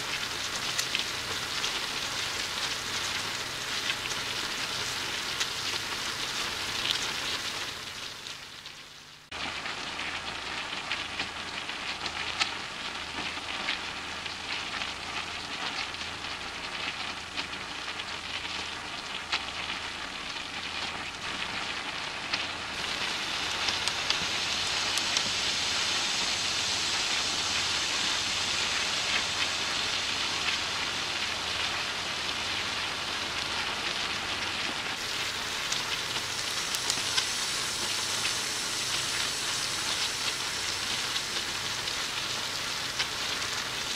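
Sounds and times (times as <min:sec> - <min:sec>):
curry sizzling and bubbling in oil: 0:00.0 - 0:43.9.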